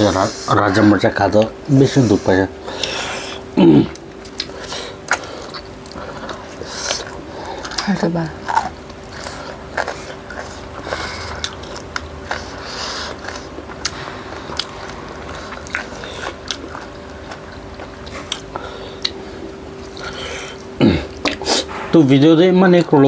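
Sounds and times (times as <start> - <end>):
chewing and biting food: 0.0 - 21.9
faint steady hum: 0.0 - 23.0.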